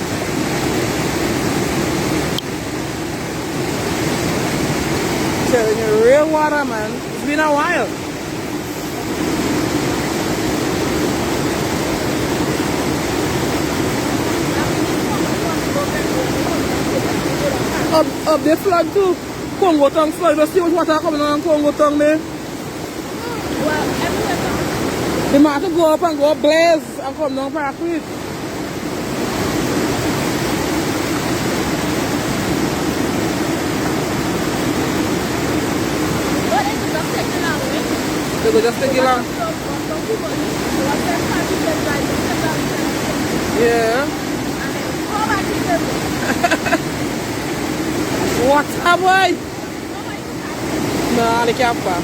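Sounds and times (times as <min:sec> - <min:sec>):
floodwater rushing: 0:00.0 - 0:52.0.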